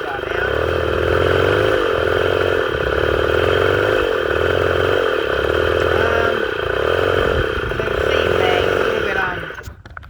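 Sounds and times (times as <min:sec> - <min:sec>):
motorbike engine revving: 0:00.0 - 0:09.9.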